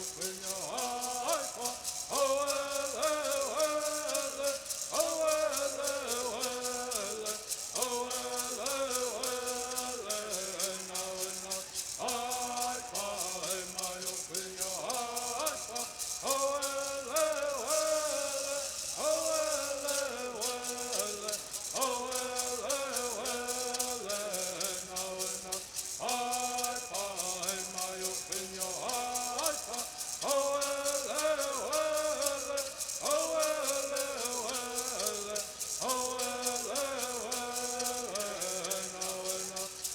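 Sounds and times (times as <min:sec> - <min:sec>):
gourd rattles shaking: 0:00.0 - 0:39.9
singers chanting in unison: 0:00.0 - 0:39.9.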